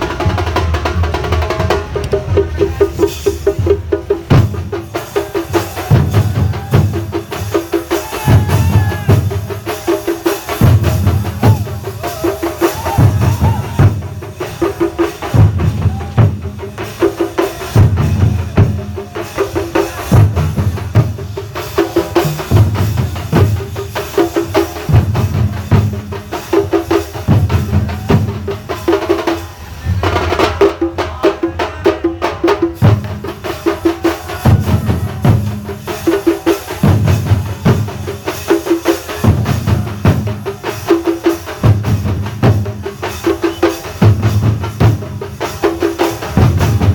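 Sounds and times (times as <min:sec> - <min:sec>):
drums in fast rhythm: 0:00.0 - 0:46.9.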